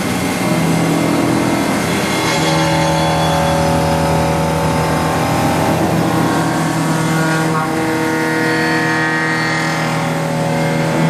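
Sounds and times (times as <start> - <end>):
milling machine drone: 0.0 - 11.0.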